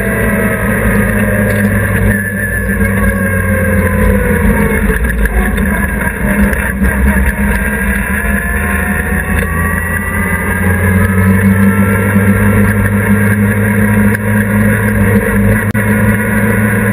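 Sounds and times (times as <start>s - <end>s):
race car engine running: 0.0s - 16.9s.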